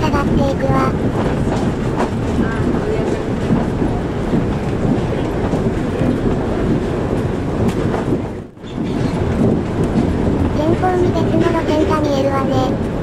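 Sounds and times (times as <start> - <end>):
monorail tyres rumbling: 0.0 - 13.0.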